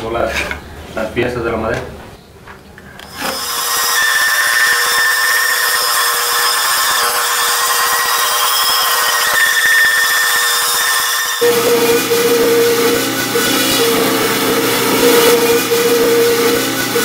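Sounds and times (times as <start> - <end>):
band saw cutting wood: 3.0 - 17.0.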